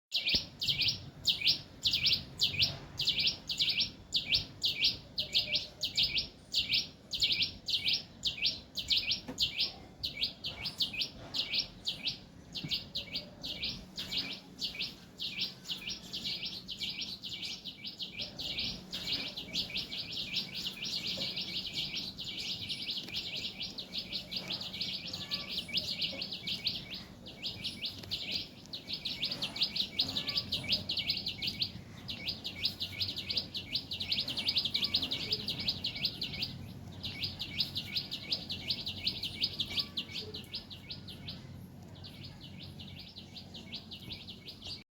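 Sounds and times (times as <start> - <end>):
bird chirping: 0.1 - 44.8.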